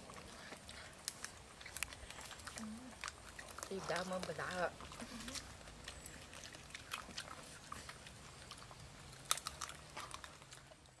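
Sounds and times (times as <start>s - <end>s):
food crunching being chewed: 0.0s - 11.0s.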